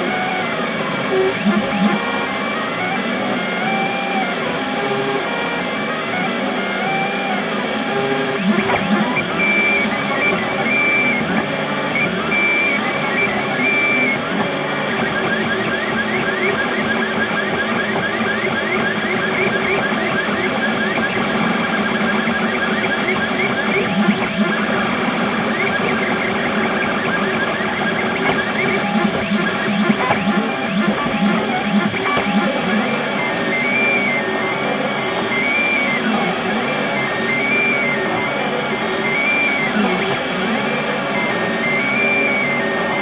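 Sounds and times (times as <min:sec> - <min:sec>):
printer stepper motors whining: 0:00.0 - 0:43.0.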